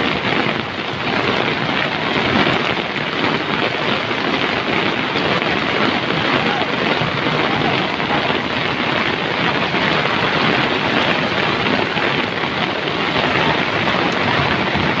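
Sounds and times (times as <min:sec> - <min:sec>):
flood water rushing: 0:00.0 - 0:15.0.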